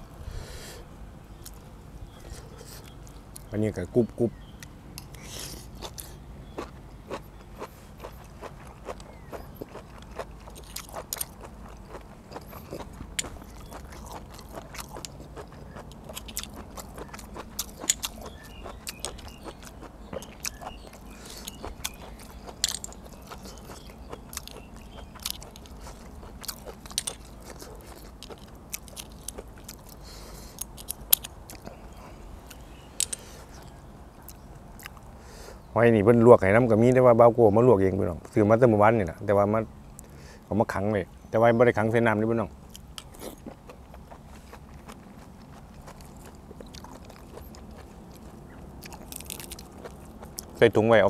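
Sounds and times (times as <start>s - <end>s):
chewing and crunching: 1.3s - 3.6s, 4.5s - 35.2s, 42.3s - 51.0s.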